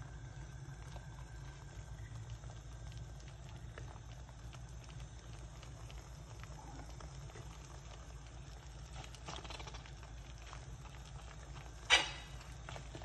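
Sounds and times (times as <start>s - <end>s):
eggs sizzling in a frying pan: 0.0s - 13.0s.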